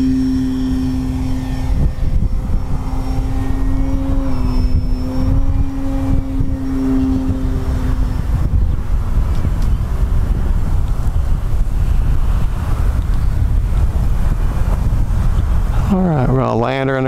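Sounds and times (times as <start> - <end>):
model plane motor whine: 0.0 - 16.3
wind rumbling on microphone: 0.0 - 17.0.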